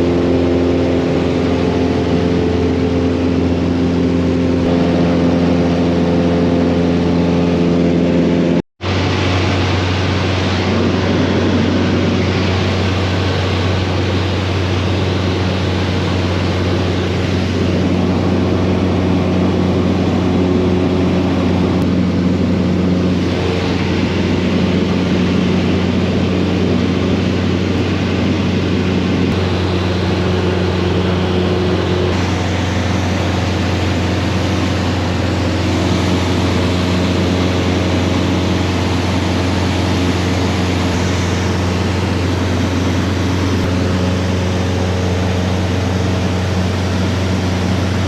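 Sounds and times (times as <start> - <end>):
light plane engine drone from cabin: 0.0 - 48.0.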